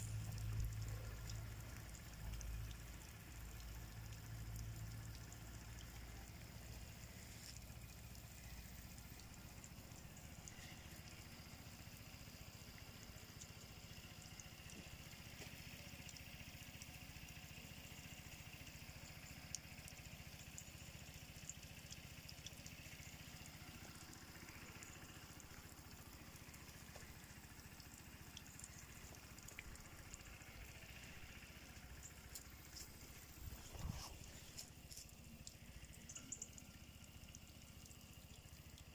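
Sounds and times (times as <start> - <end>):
faint low hum: 0.0 - 38.9
small ticks: 0.0 - 38.9.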